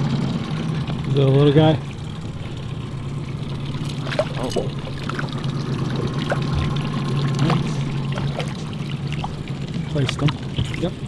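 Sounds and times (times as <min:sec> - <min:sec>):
boat motor humming: 0:00.0 - 0:11.0
water splashing and trickling: 0:00.0 - 0:11.0.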